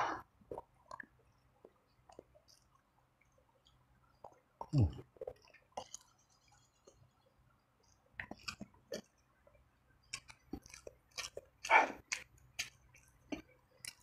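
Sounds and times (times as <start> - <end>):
person chewing food: 0.4 - 2.9, 3.6 - 7.2, 7.8 - 14.0.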